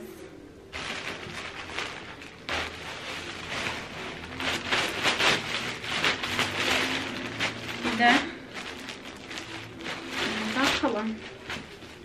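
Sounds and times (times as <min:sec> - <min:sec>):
plastic wrapping crinkling: 0:00.7 - 0:12.0.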